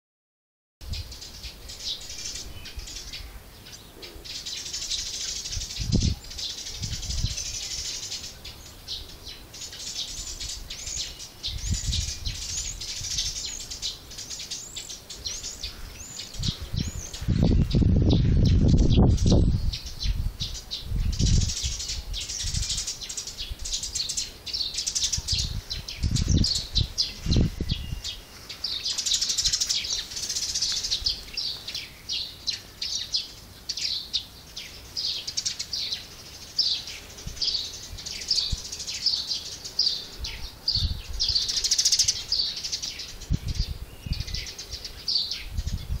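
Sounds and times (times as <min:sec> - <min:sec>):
songbirds chirping and singing: 0:00.8 - 0:46.0.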